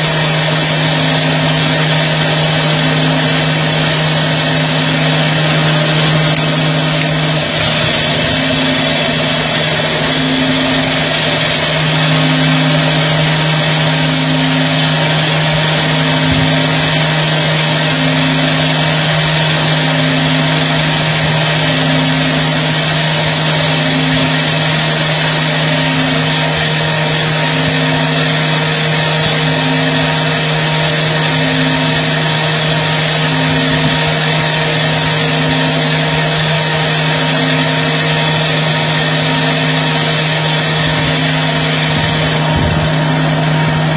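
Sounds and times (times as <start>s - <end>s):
lathe machining noise: 0.0s - 43.9s
low hum: 0.0s - 43.9s
low pulsing throb: 0.0s - 43.9s.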